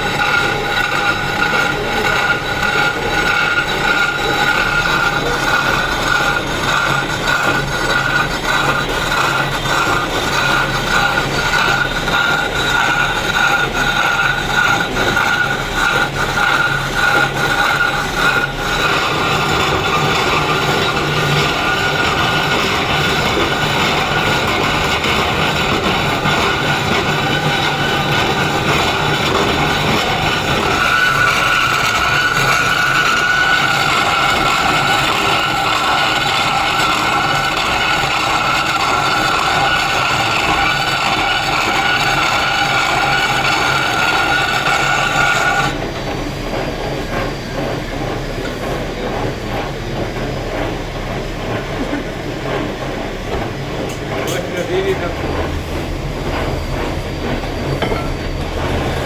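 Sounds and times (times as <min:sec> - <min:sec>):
power tool grinding stone: 0:00.0 - 0:49.4, 0:51.5 - 0:59.0.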